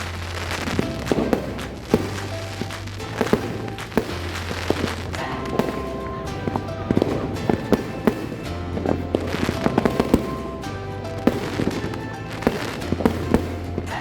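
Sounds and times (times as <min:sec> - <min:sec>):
background music: 0:00.0 - 0:14.0
firecrackers banging: 0:00.0 - 0:14.0.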